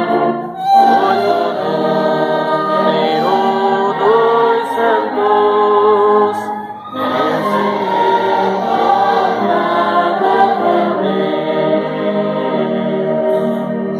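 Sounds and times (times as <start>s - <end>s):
congregation singing a hymn: 0.0s - 13.9s
instrumental accompaniment: 0.0s - 13.9s.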